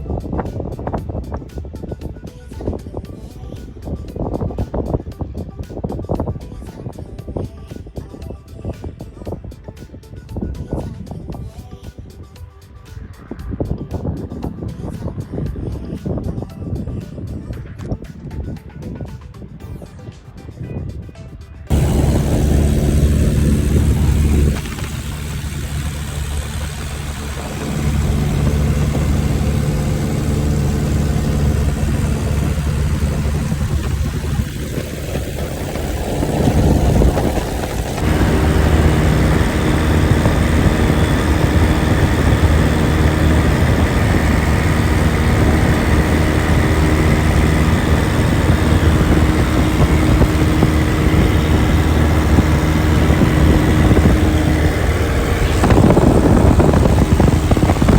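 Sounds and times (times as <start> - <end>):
light airplane engine and propeller: 0.0 - 57.9.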